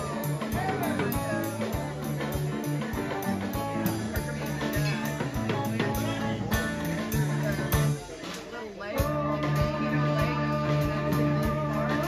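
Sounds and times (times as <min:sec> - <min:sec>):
bass line: 0:00.0 - 0:08.2, 0:09.0 - 0:12.0
guitar: 0:00.0 - 0:12.0
steady drum beat: 0:00.0 - 0:12.0.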